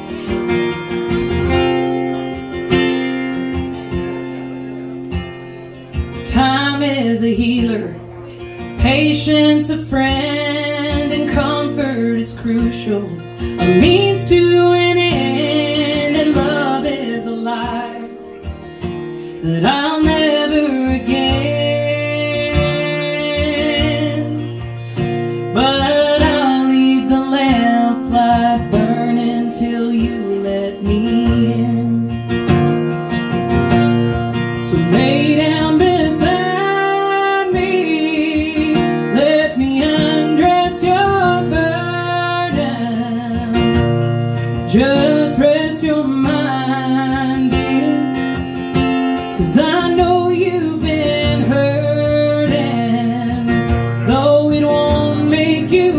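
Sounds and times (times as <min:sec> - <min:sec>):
acoustic guitar strumming: 0:00.0 - 0:55.9
woman singing: 0:06.2 - 0:08.1, 0:08.7 - 0:18.4, 0:19.4 - 0:32.4, 0:34.5 - 0:55.9.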